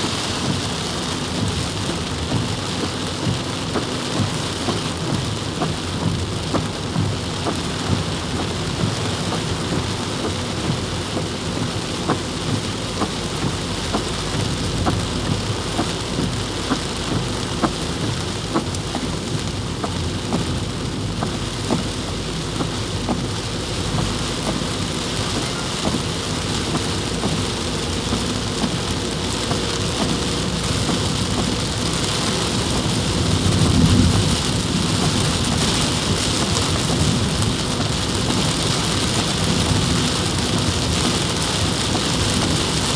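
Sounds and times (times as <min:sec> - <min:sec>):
heavy rain pouring: 0:00.0 - 0:42.9
raindrops tapping: 0:00.0 - 0:42.9.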